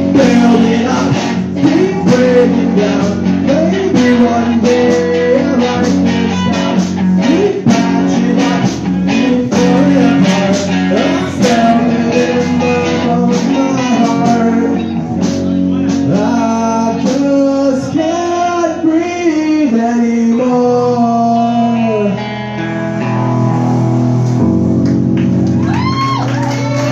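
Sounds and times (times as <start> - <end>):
live rock band playing: 0.0 - 18.3, 21.4 - 26.9.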